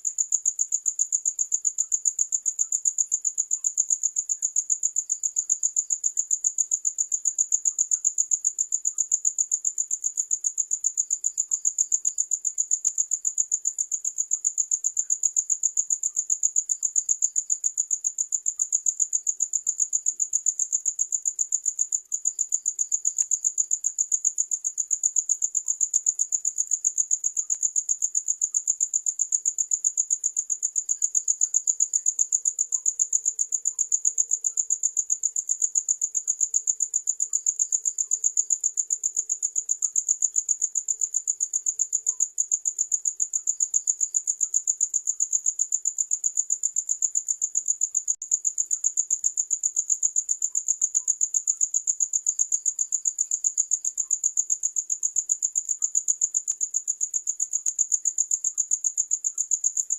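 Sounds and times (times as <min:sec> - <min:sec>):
cricket chirping trill: 0:00.0 - 0:59.9.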